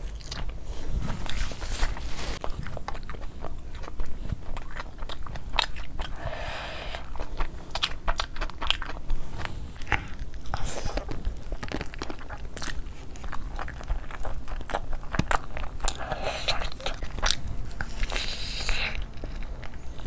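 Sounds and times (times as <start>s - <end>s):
close chewing and biting: 0.0s - 20.0s.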